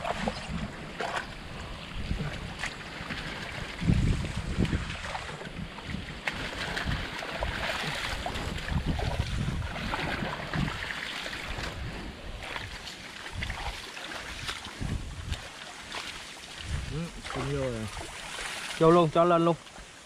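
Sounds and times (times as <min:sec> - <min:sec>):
wind rumbling on microphone: 0:00.0 - 0:19.2
water splashing and sloshing: 0:00.0 - 0:20.0.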